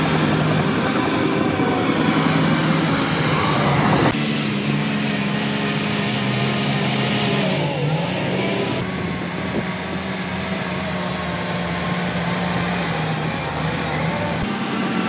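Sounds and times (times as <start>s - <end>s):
diesel earthmoving machinery running: 0.0s - 15.0s.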